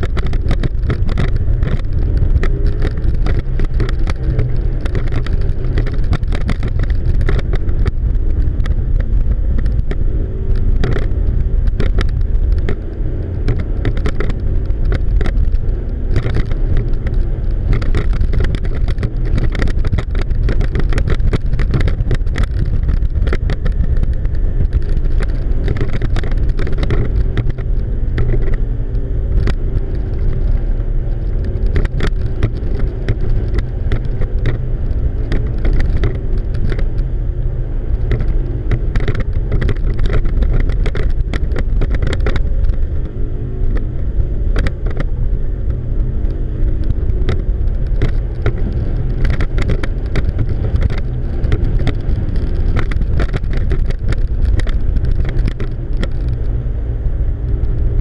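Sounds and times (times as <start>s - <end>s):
outboard motors under heavy load: 0.0s - 58.0s
wind buffeting microphone: 0.0s - 58.0s.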